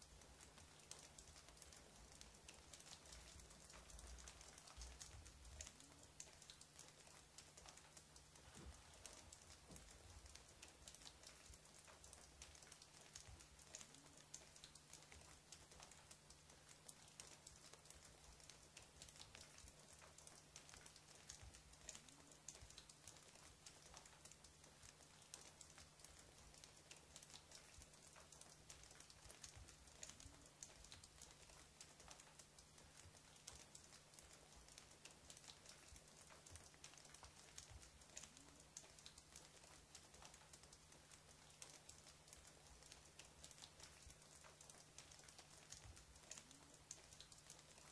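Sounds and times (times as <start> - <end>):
faint clicks: 0.0 - 47.9
faint hiss: 0.0 - 47.9.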